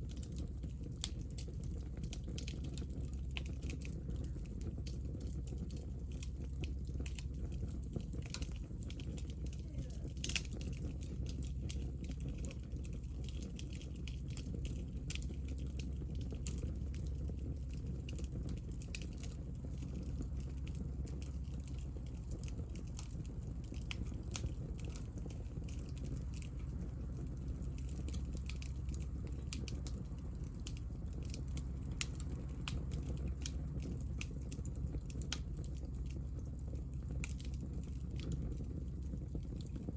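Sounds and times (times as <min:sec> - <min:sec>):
low rumble of fire: 0:00.0 - 0:39.9
wood fire crackling: 0:00.0 - 0:39.9.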